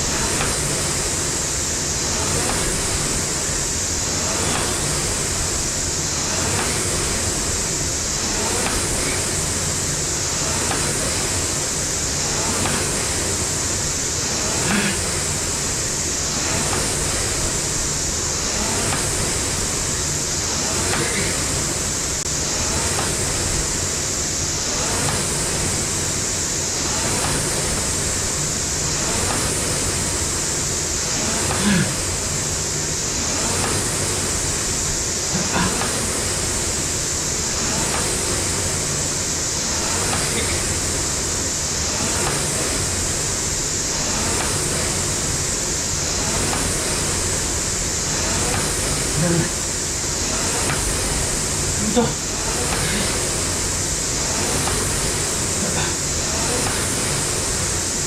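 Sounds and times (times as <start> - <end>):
rowing machine clicks: 0.0 - 24.0, 24.7 - 26.2, 26.8 - 30.4, 31.0 - 34.6, 35.2 - 57.8
rowing machine fan whooshing: 0.0 - 58.0.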